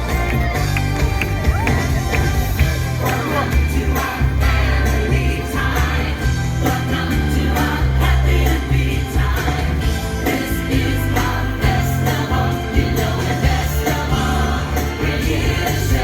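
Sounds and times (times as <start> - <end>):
heavy bass line: 0.0 - 16.0
song with singing: 0.0 - 16.0.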